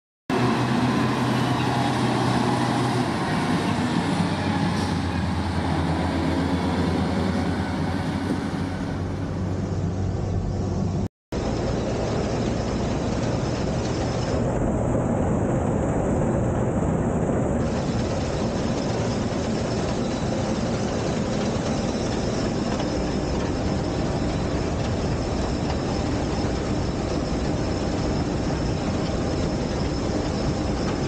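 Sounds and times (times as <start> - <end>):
working machinery noise: 0.3 - 16.2, 16.8 - 31.0
combine harvester engine hum: 0.3 - 31.0.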